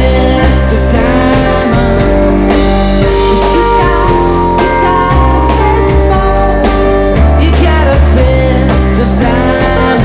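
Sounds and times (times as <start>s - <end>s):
live rock band playing: 0.0s - 10.0s
strummed guitars: 0.0s - 10.0s.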